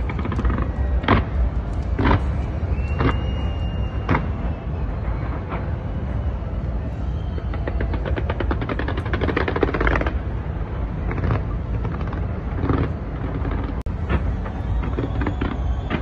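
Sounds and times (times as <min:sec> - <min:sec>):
fireworks bangs: 0:00.0 - 0:16.0
steady low rumble: 0:00.0 - 0:16.0.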